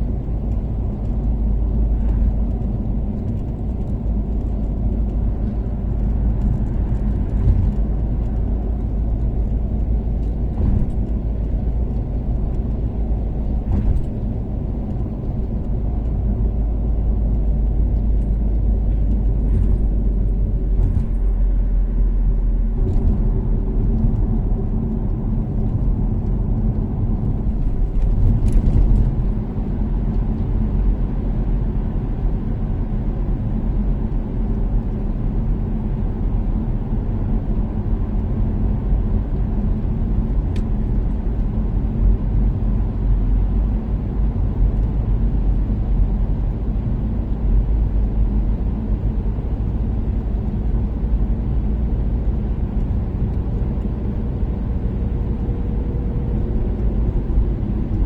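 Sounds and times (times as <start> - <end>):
car engine and road drone: 0.0 - 58.0.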